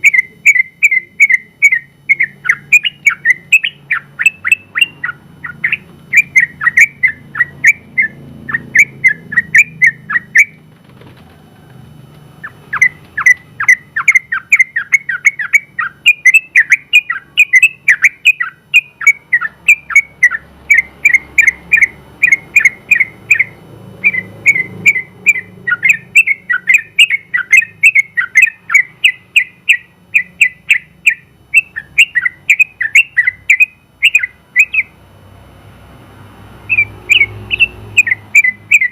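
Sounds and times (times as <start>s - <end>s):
bird chirping rapidly: 0.0s - 35.0s, 36.6s - 38.9s.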